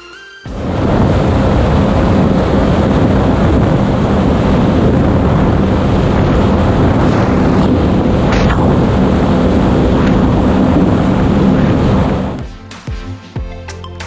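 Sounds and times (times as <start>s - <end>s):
water rushing past: 0.5s - 12.4s
watercraft engine running: 0.5s - 12.4s
wind noise on microphone: 0.5s - 12.4s.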